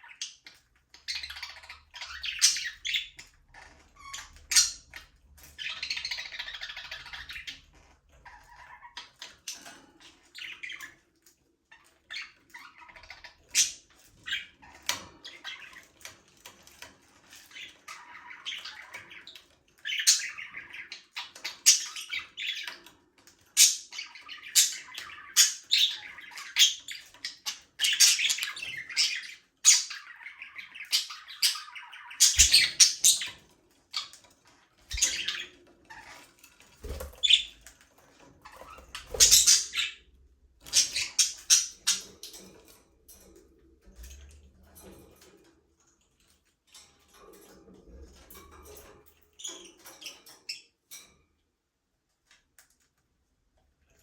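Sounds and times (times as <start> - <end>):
budgerigars chirping and squawking: 0.0 - 45.4, 47.4 - 50.8.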